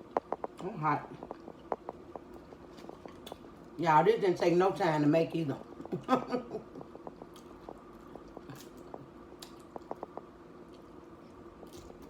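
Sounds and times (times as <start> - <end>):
close chewing mouth sounds: 0.0 - 3.8, 5.6 - 12.0.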